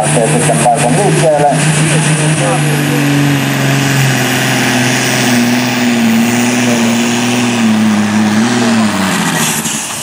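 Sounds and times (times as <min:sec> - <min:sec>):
diesel tractor engine at full load: 0:00.0 - 0:10.0.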